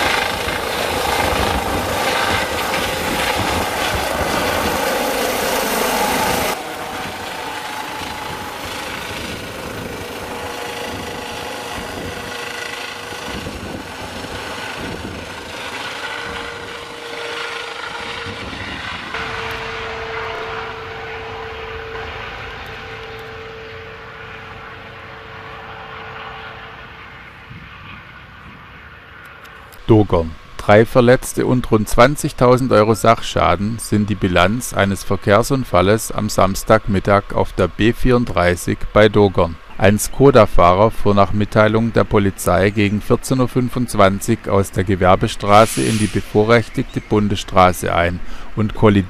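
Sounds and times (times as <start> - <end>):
helicopter flying: 0.0 - 49.0.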